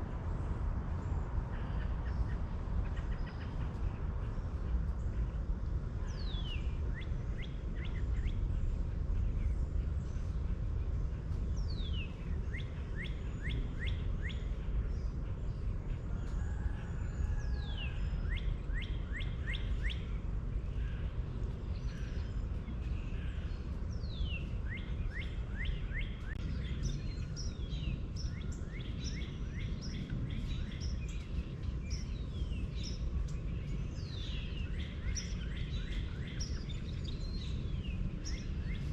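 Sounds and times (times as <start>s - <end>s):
steady low rumbling noise: 0.0s - 38.9s
bird singing: 0.4s - 38.9s.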